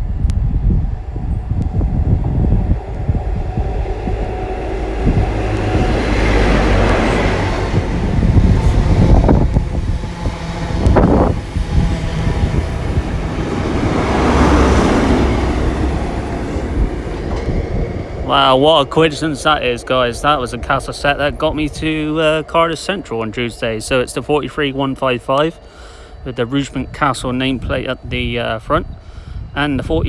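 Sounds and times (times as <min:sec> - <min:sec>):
diesel engines droning: 0:00.0 - 0:30.0
train coaches rumbling on rails: 0:00.0 - 0:30.0.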